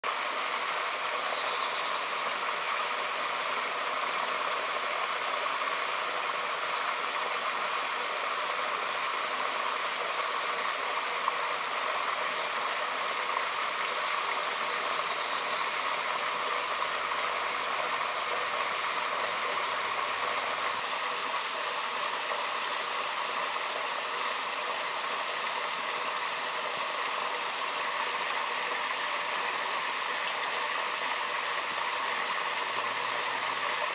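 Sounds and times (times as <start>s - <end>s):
water rushing in stream: 0.0s - 33.9s.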